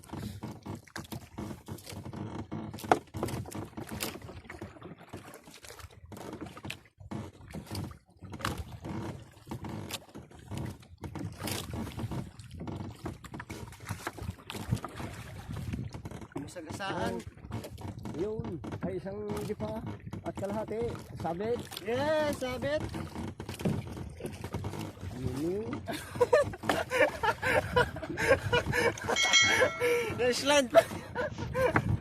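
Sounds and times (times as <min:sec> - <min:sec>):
knocks and clatter on boat: 0:00.0 - 0:32.0
water splashing: 0:00.0 - 0:32.0.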